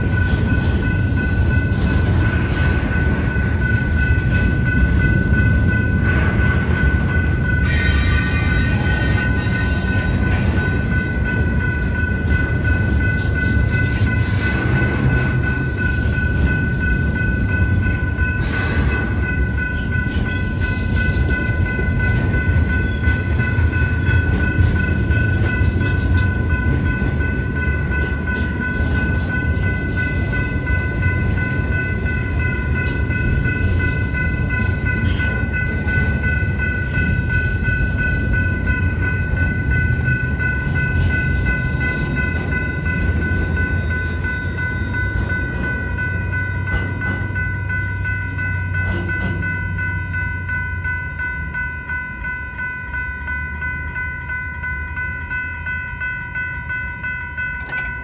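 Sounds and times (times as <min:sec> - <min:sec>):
high ringing tones: 0:00.0 - 0:58.0
train wheels rumbling on rails: 0:00.0 - 0:58.0.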